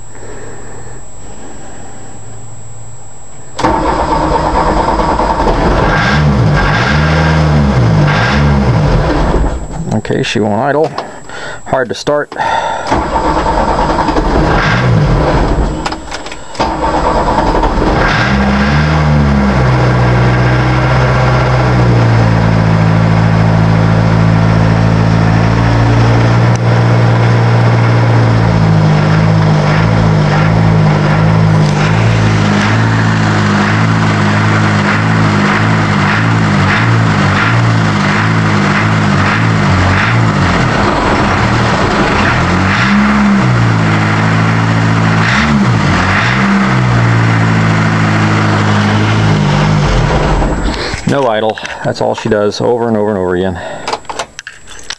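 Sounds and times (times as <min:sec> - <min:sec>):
diesel engine running unevenly: 0:00.0 - 0:11.6, 0:12.4 - 0:51.9
diesel engine cranking: 0:03.4 - 0:11.6, 0:12.3 - 0:54.9.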